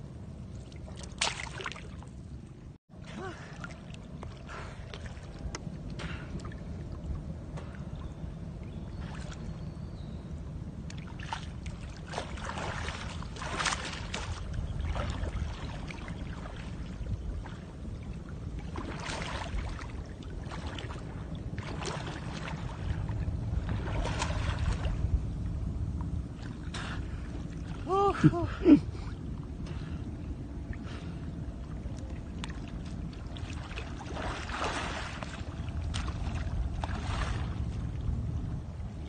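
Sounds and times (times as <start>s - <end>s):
water sloshing and splashing: 0.4s - 9.7s, 10.8s - 39.0s
low rumble: 2.2s - 39.0s.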